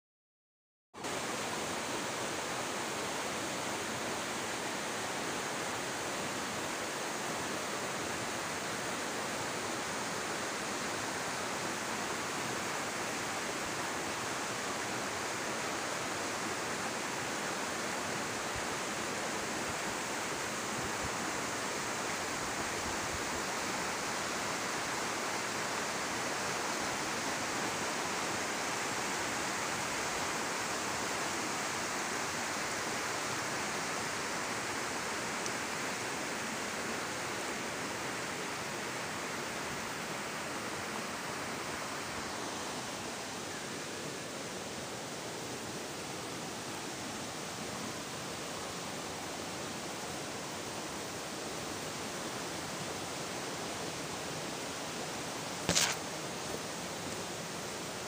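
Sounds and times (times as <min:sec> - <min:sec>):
flowing water rushing: 0:01.0 - 0:58.0.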